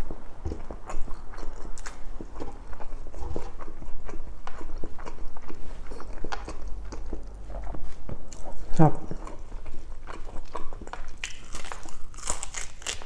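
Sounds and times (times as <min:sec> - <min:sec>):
wet chewing and mouth smacks: 0:00.0 - 0:13.0.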